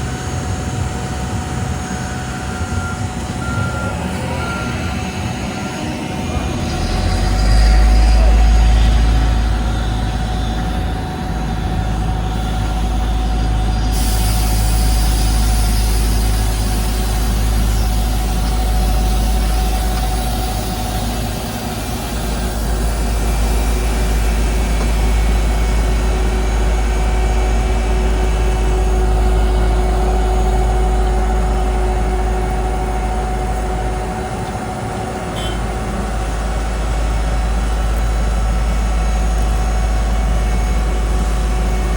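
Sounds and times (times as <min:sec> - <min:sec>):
diesel engine rumble: 0:00.0 - 0:41.9
faint steady whine: 0:00.0 - 0:41.9.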